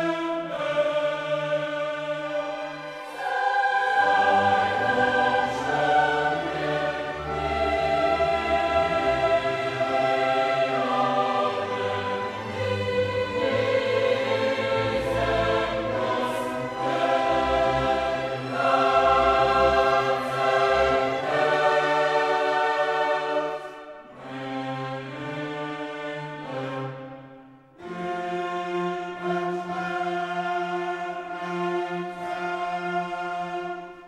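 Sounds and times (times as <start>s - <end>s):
choir singing held chords: 0.0s - 34.0s
strings: 0.0s - 34.0s.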